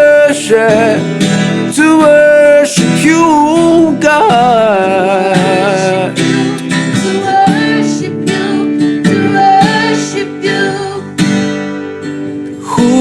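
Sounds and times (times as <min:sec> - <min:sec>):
instrumental worship music: 0:00.0 - 0:13.0.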